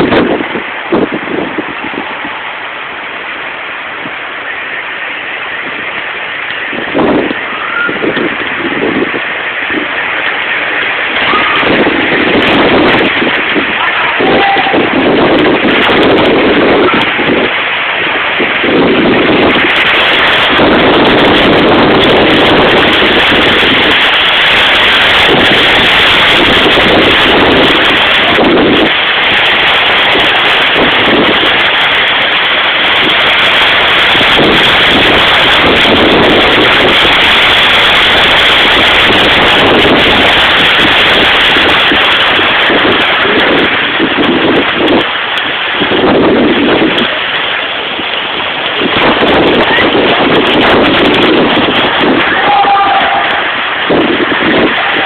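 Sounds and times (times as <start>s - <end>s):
heavy rain falling: 0.0s - 55.0s
wind gusts on microphone: 0.0s - 55.0s.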